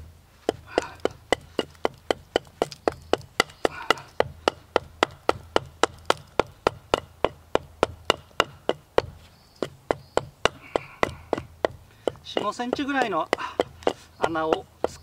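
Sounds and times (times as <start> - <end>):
hatchet chopping wood: 0.4 - 15.0.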